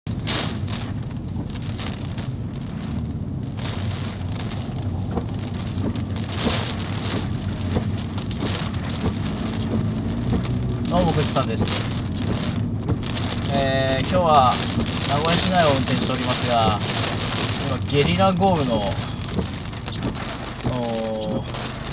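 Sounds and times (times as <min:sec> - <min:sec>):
heavy rain pounding on a car: 0:00.1 - 0:21.9
low hum from car: 0:00.1 - 0:21.9.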